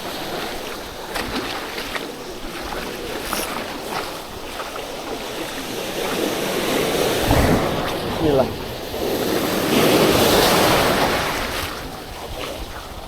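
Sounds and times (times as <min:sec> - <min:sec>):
sea surf washing on shore: 0:00.0 - 0:13.0
wind buffeting microphone: 0:00.0 - 0:13.0.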